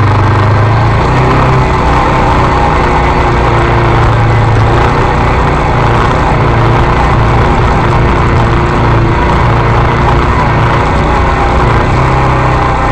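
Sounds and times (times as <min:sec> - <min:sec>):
atv engine running: 0:00.0 - 0:12.9.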